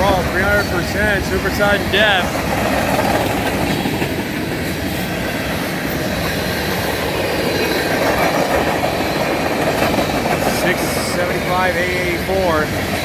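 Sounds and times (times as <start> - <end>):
steel wheels rolling on rails: 0.0 - 13.0.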